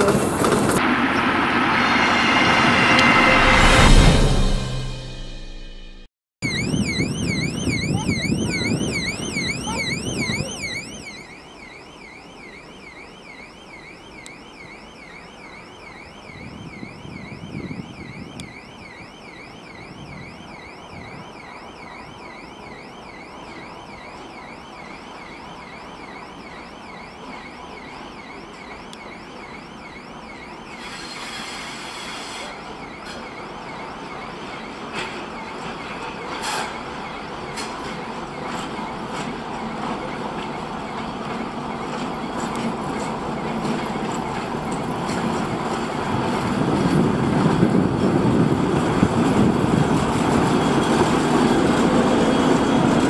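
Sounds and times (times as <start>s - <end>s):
electronic crossing signal warble: 0.8s - 53.0s.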